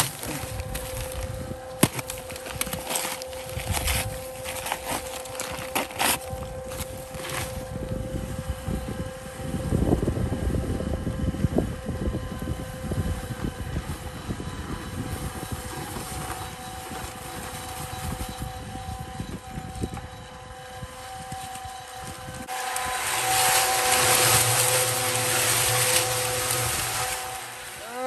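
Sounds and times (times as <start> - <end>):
wind buffeting microphone: 0.0 - 5.6, 6.2 - 27.8
cement mixer motor hum: 0.0 - 28.0.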